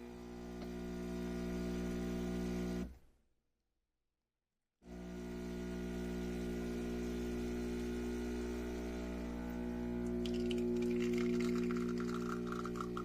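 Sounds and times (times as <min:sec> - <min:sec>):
espresso machine pump buzzing: 0:00.0 - 0:02.9, 0:04.9 - 0:13.0.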